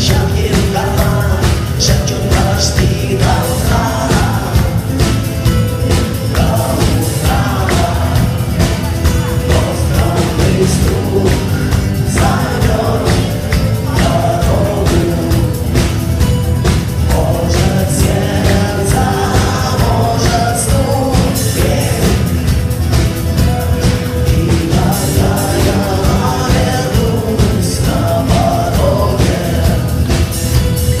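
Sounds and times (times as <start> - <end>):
singing over a steady beat: 0.0 - 31.0.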